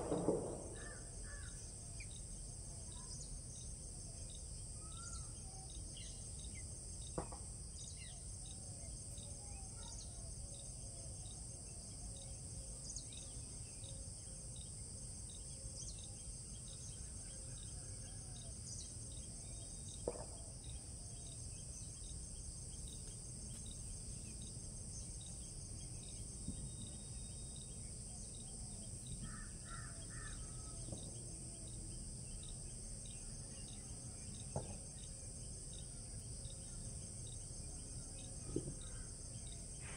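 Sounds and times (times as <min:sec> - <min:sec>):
insect chorus buzzing and chirping: 0:00.0 - 0:39.9.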